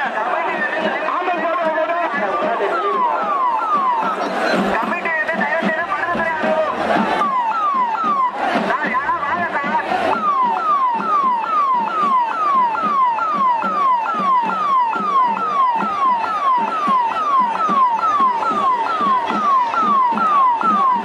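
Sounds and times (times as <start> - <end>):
large crowd noise: 0.0 - 21.0.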